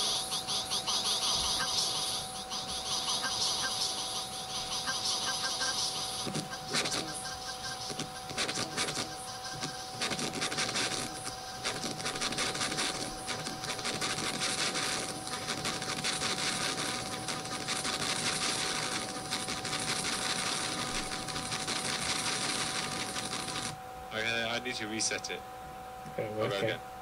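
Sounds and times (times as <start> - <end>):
steady tone: 0.0 - 23.7.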